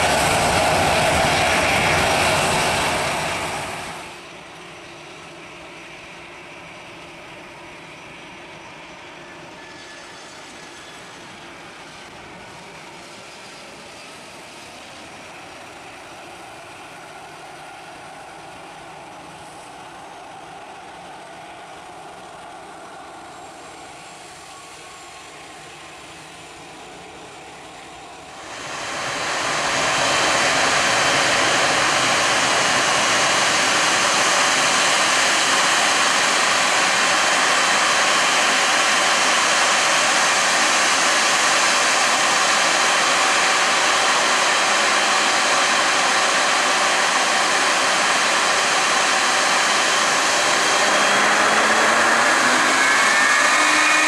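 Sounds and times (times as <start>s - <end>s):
jet engines roaring: 0.0s - 54.0s
rising whine: 7.3s - 54.0s.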